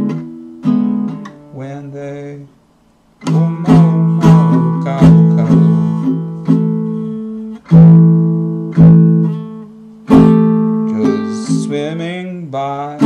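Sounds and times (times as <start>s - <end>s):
ukulele strummed in chords: 0.0s - 2.5s, 3.2s - 13.0s.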